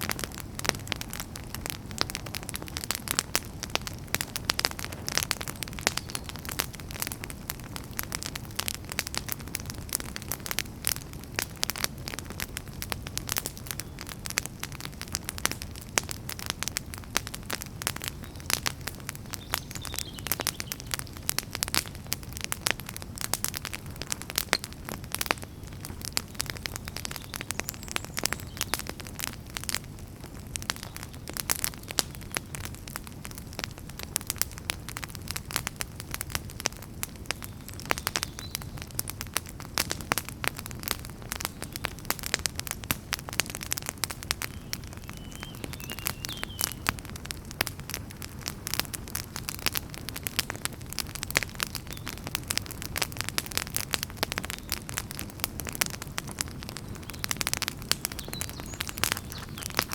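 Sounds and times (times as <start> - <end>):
low rumble of flames: 0.0 - 59.9
wood fire crackling: 0.0 - 59.9.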